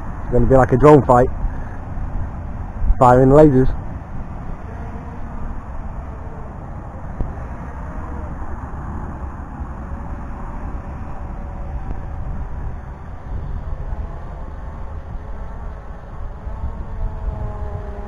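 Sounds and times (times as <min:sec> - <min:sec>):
distant drone motor whine: 0:00.0 - 0:18.0
wind buffeting microphone: 0:00.0 - 0:18.0.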